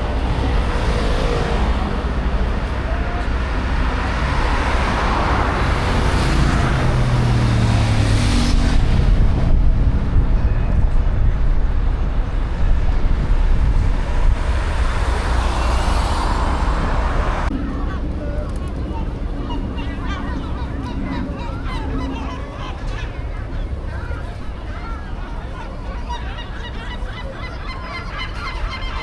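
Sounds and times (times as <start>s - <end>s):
road traffic passing: 0.0s - 29.0s
vehicle engine hum: 0.0s - 29.0s.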